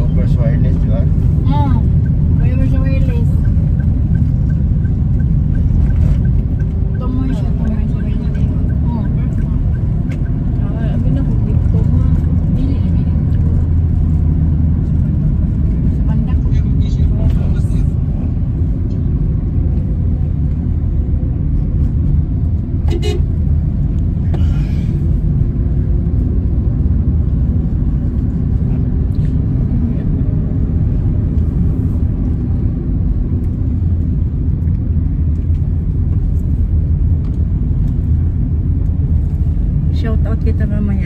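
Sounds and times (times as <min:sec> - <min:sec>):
car cabin road and engine rumble: 0:00.0 - 0:41.0.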